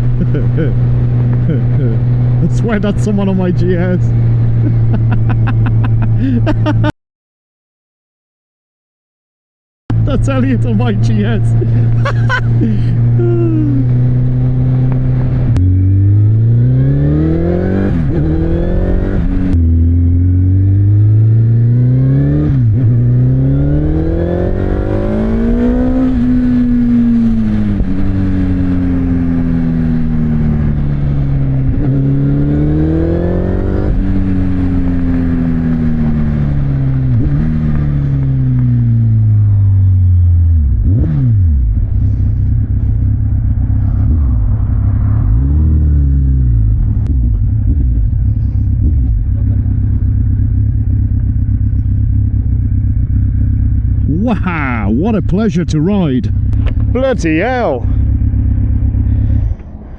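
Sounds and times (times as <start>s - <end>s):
motorcycle engine revving: 9.9s - 59.9s.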